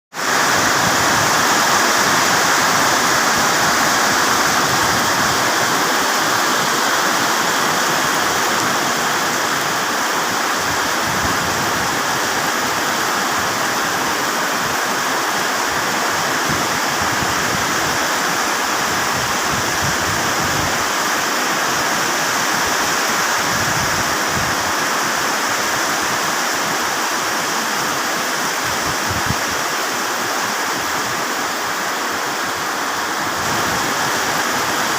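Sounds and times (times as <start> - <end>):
rain falling steadily: 0.1 - 34.9.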